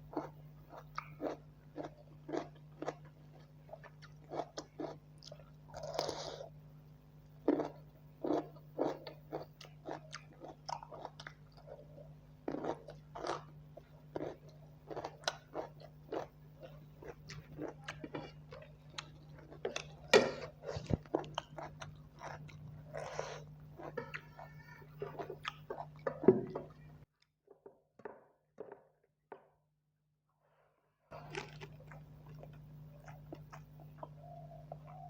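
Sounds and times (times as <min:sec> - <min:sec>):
person chewing food: 0:00.0 - 0:06.6, 0:07.2 - 0:26.9, 0:31.1 - 0:35.0.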